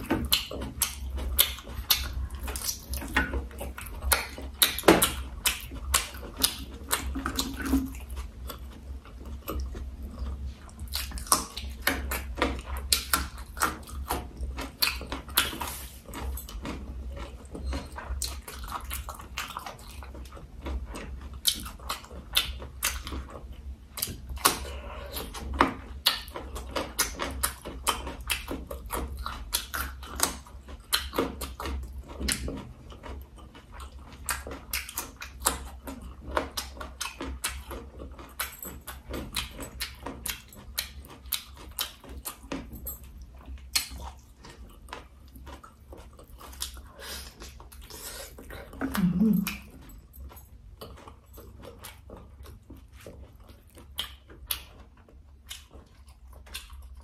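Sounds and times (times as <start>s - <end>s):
mouth clicks and smacks: 0.0s - 20.4s, 24.0s - 32.7s, 33.6s - 42.8s, 43.4s - 50.0s, 50.8s - 57.0s
person chewing meat: 0.0s - 57.0s.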